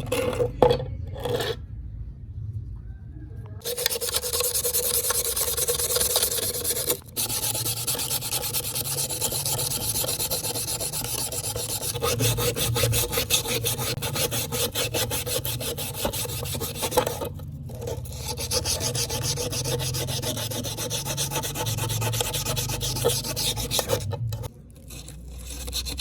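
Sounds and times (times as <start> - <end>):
abrasive rasping on knife blade: 3.7 - 26.0.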